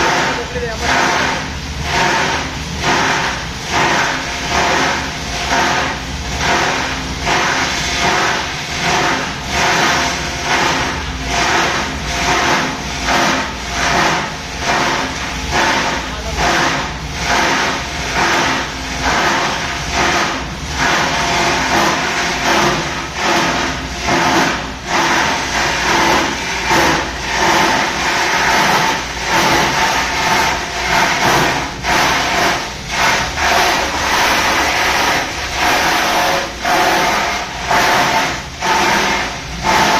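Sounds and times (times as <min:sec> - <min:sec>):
grinder machine droning: 0:00.0 - 0:39.9.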